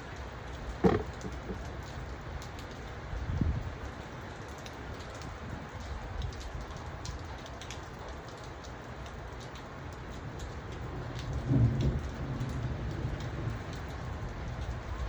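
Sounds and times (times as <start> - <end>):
raindrops ticking sharply: 0.0 - 15.0
steady rain falling: 0.0 - 15.0.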